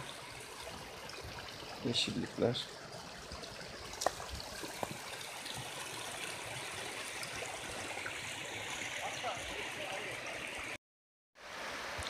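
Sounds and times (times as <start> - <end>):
fountain water splashing: 0.0 - 10.8
water trickling on wet ground: 0.0 - 10.8.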